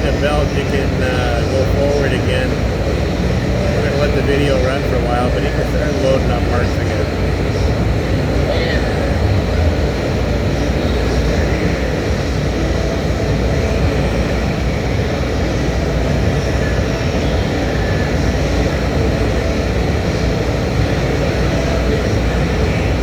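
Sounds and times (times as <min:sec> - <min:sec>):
loud machinery rumble: 0:00.0 - 0:23.0.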